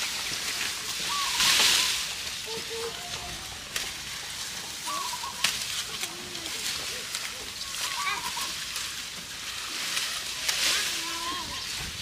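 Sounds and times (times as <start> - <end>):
branches snapping: 0.0 - 2.4, 3.0 - 12.0
cattle chewing bamboo leaves: 0.0 - 12.0.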